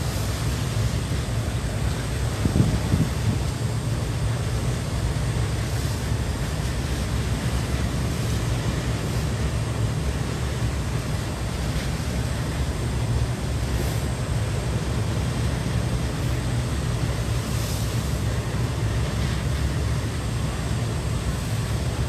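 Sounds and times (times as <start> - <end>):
low rumble aboard a boat: 0.0 - 22.0
water noise: 0.0 - 22.0
waves hitting boat: 0.0 - 22.0
wind: 0.0 - 22.0.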